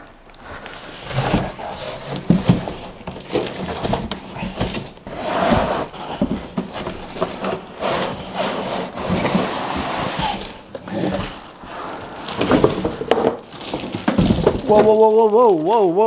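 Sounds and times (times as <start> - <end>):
cardboard and plastic rustling: 0.0 - 16.0.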